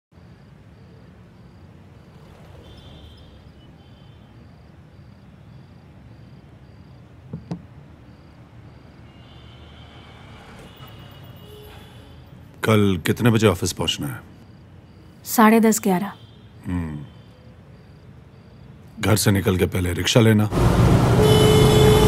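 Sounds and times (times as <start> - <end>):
crickets chirping: 0.1 - 20.5
distant traffic rumble: 0.2 - 22.0.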